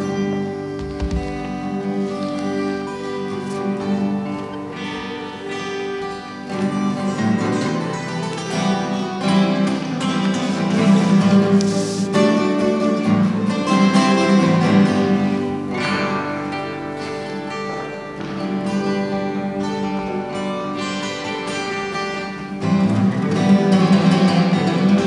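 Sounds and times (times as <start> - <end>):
instrumental music with sustained notes: 0.0 - 25.0.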